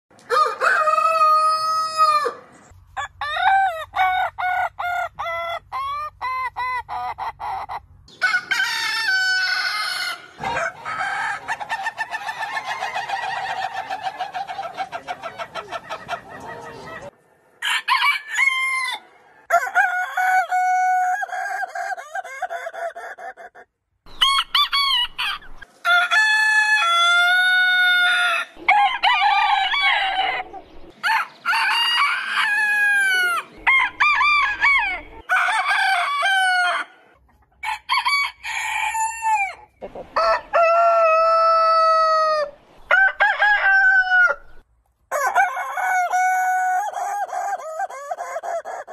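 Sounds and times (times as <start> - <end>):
roosters crowing: 0.2 - 23.5, 24.1 - 48.9.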